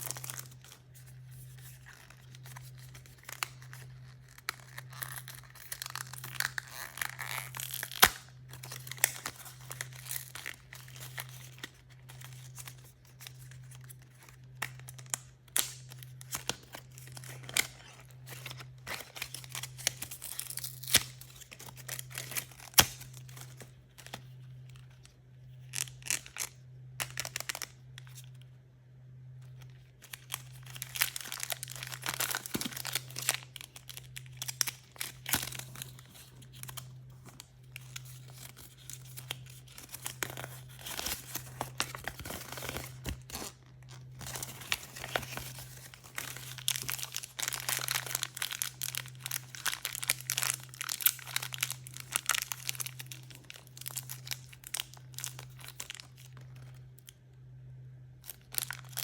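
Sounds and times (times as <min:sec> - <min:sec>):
wrapping crinkling and tearing: 0:00.0 - 0:28.4, 0:29.4 - 0:57.2, 0:58.2 - 0:59.0.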